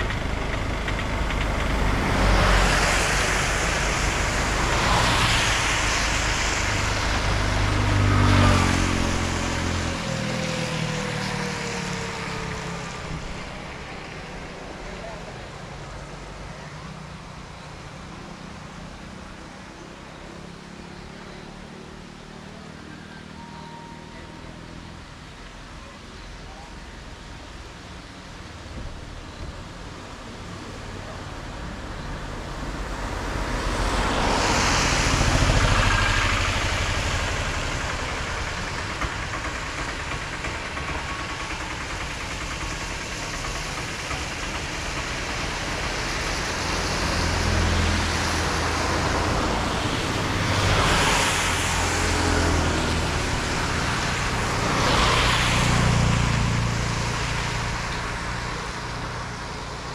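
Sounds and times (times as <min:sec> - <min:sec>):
vehicles passing on wet road: 0:00.0 - 0:59.9.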